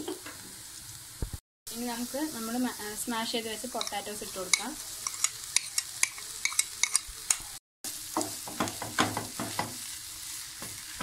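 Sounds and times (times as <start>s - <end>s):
oil sizzling in frying pan: 0.0s - 11.0s.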